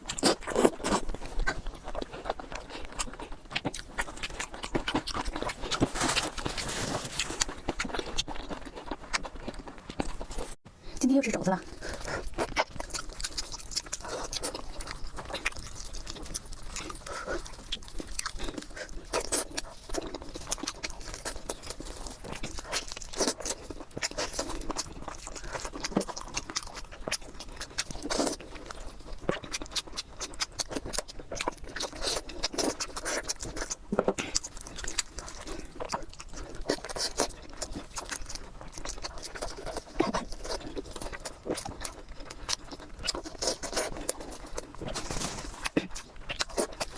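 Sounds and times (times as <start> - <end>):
person chewing: 0.0 - 11.0, 11.6 - 46.9.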